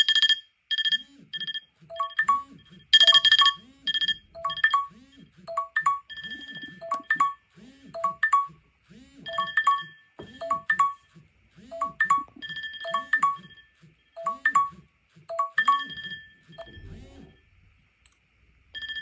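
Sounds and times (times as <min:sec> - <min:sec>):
phone timer alarms chiming: 0:00.0 - 0:08.6, 0:09.2 - 0:11.1, 0:11.7 - 0:16.9, 0:18.8 - 0:19.0.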